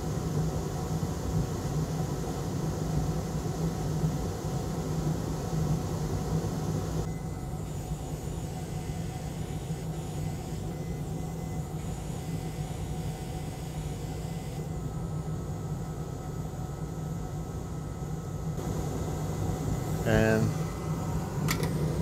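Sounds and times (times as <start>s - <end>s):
electric fan whirring: 0.0s - 22.0s.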